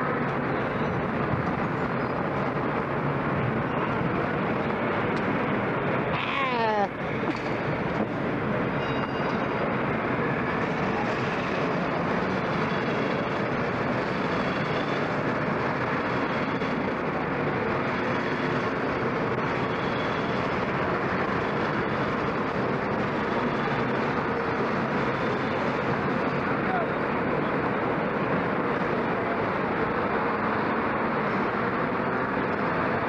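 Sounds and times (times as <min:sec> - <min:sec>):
high engine whines: 0:00.0 - 0:33.0.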